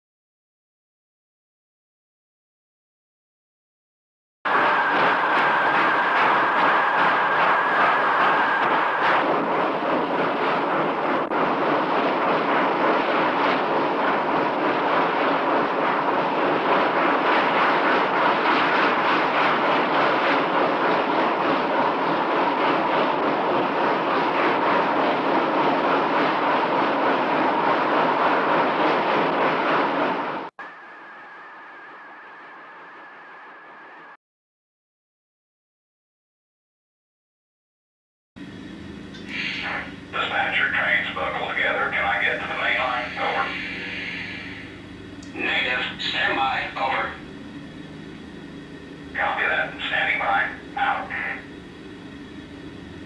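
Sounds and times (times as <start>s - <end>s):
train running: 4.5s - 34.2s, 38.4s - 53.0s.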